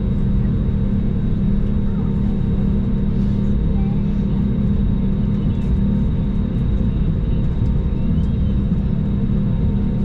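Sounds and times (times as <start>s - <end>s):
airplane cabin engine drone: 0.0s - 10.0s.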